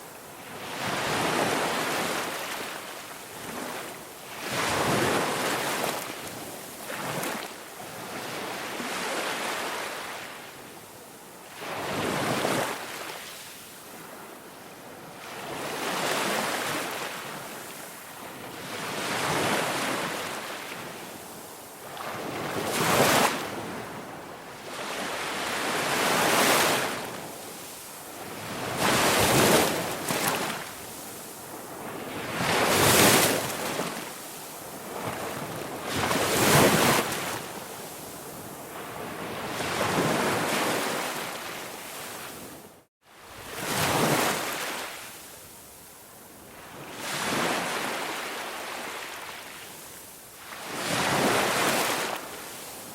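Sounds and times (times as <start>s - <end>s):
waves washing onto shore: 0.0s - 10.6s, 15.1s - 52.9s.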